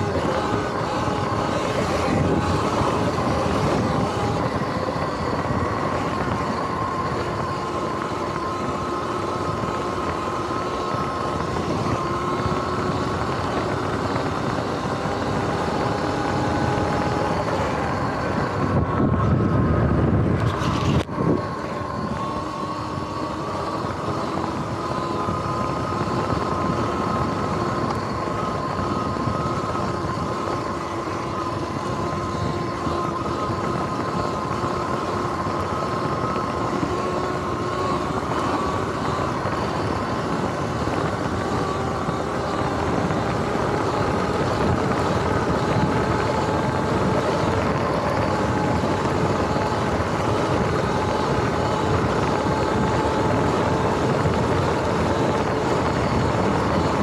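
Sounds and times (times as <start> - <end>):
electric motor whine: 0.0 - 57.0
low rumble of wind buffeting: 0.0 - 57.0
wind and tyre noise: 0.0 - 57.0.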